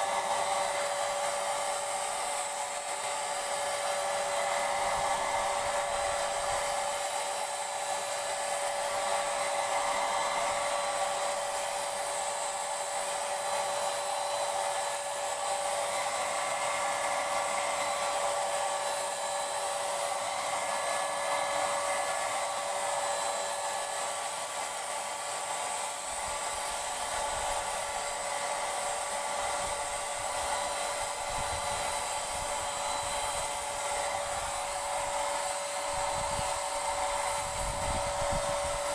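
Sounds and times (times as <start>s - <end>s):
electric paint sprayer whine: 0.0s - 38.9s.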